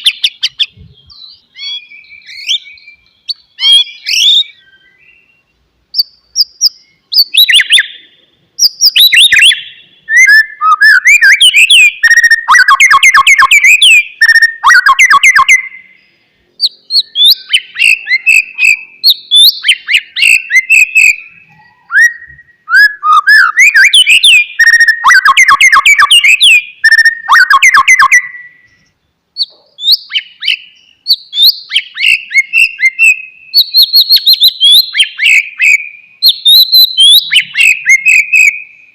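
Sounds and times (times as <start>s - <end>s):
songbird whistling and chattering: 0.0s - 38.9s.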